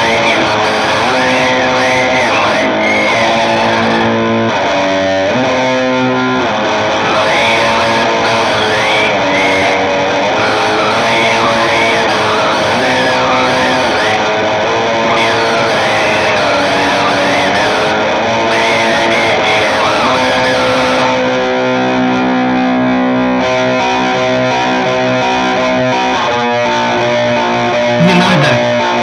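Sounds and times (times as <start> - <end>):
guitar chords and bending melody: 0.0 - 29.0.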